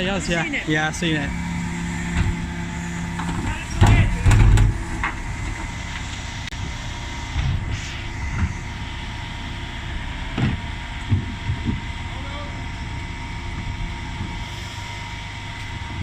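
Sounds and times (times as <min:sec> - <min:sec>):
faint steady whine: 0:00.0 - 0:16.0
lorry engine droning: 0:00.0 - 0:16.0.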